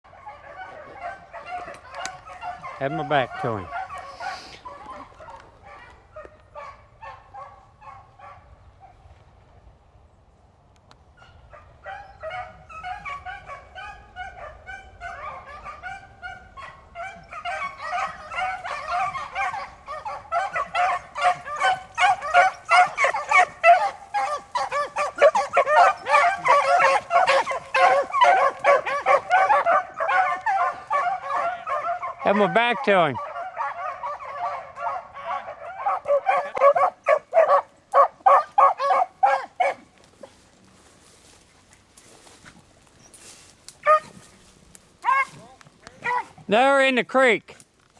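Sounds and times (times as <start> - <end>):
hounds baying: 0.1 - 9.0, 11.2 - 41.4, 42.2 - 46.8.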